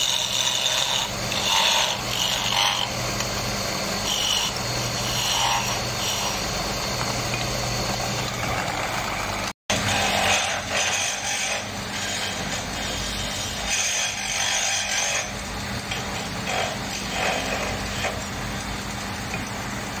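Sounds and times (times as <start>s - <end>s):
lathe motor humming: 0.0s - 16.0s
turning tool scraping wood: 0.0s - 18.3s.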